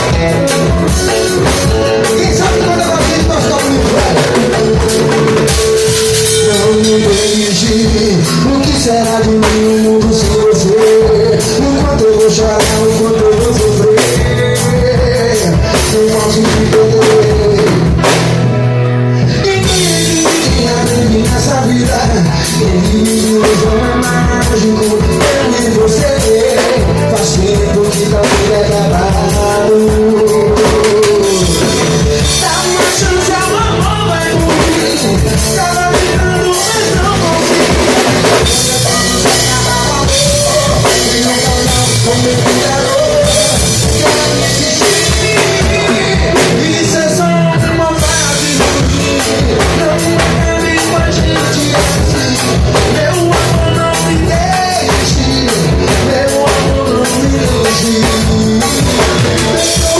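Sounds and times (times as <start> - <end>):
bass: 0.0 - 59.9
drum kit steady beat: 0.0 - 59.9
melodic line: 0.0 - 59.9.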